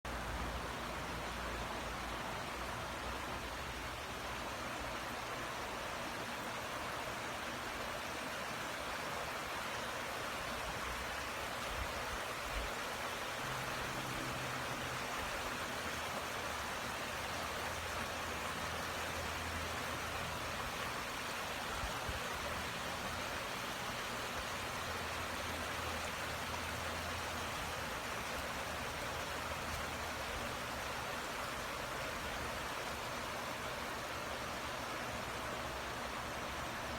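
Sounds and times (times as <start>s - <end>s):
creek water flowing: 0.1s - 36.9s.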